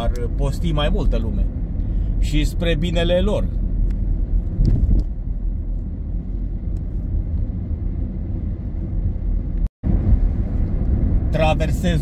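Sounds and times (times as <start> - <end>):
car driving heard from inside: 0.0 - 12.0.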